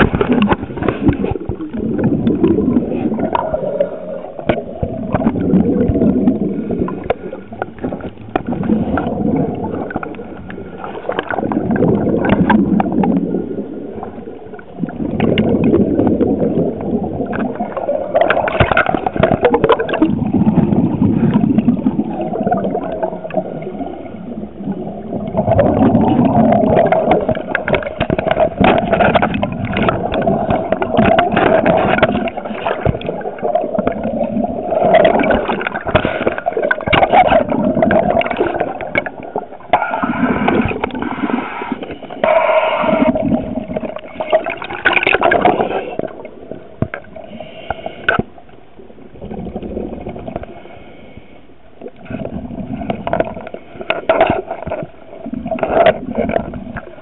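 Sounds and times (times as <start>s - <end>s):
scuba regulator bubbling: 0.0s - 57.0s.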